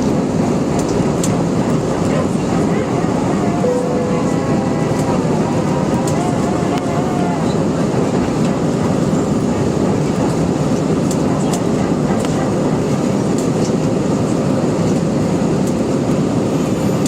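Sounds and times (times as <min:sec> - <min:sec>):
jet engines roaring in cabin: 0:00.0 - 0:17.0.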